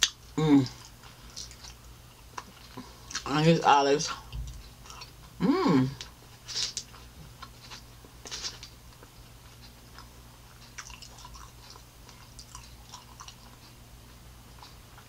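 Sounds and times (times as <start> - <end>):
chewing pizza: 0.0 - 15.0.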